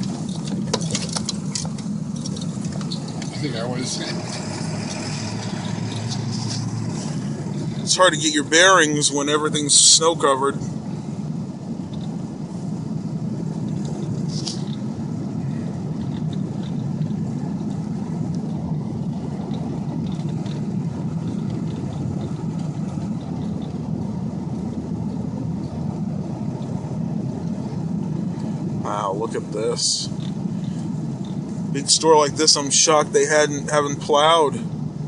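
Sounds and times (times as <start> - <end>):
truck engine and tyres rumbling: 0.0 - 35.0.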